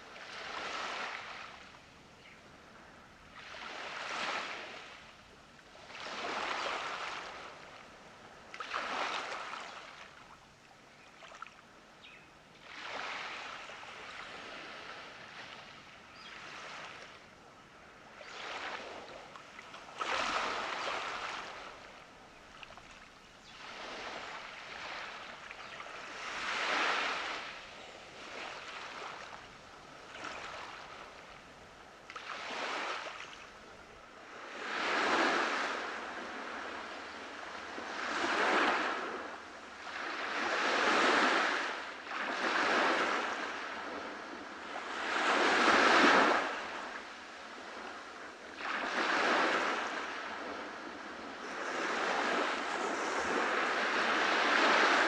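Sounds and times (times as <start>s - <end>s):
waves breaking on a beach: 0.0s - 55.0s.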